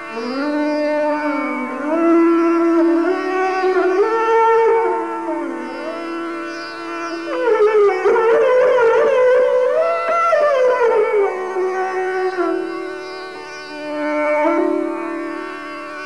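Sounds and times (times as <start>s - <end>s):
bowed string melody: 0.0s - 16.0s.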